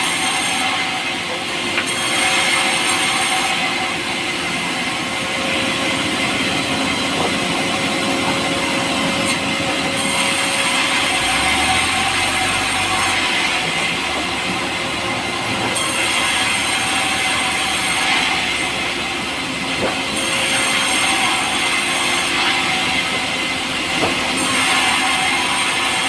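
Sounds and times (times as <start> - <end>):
power saw cutting wood: 0.0 - 26.0.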